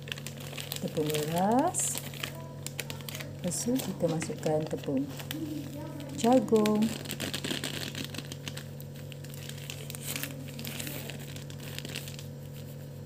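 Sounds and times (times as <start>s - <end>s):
plastic packet crinkling: 0.0s - 12.9s.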